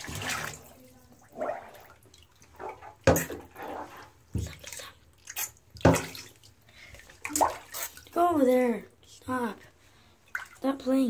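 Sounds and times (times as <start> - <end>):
bath water splashing: 0.0 - 8.8, 10.2 - 11.0.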